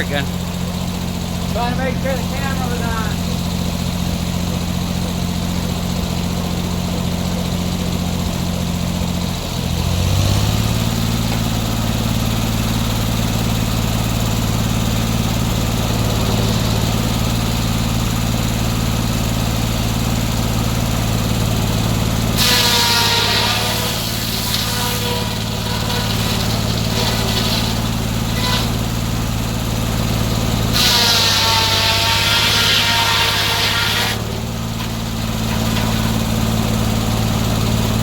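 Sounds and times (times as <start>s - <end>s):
circular saw cutting log: 0.0s - 38.0s
sawmill engine running: 0.0s - 38.0s.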